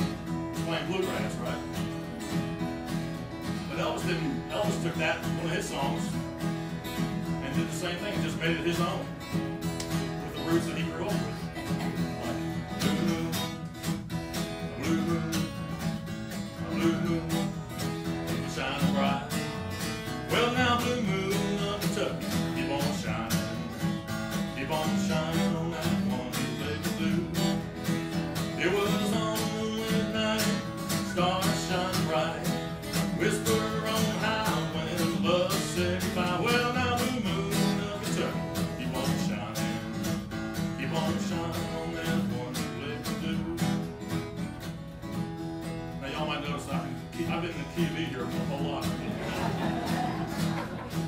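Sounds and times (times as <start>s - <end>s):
solo guitar picking and strumming: 0.0s - 51.0s.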